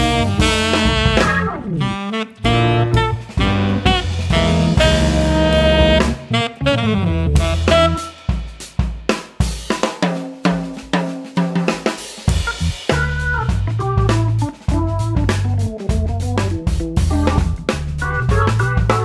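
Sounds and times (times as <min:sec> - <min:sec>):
drum kit break: 0:00.0 - 0:19.0
jazz band sustained notes: 0:00.0 - 0:19.0.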